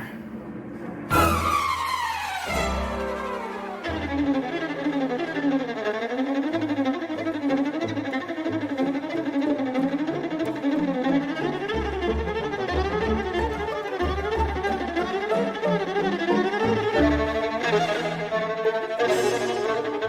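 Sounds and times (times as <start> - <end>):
fiddle melody: 1.1 - 20.0.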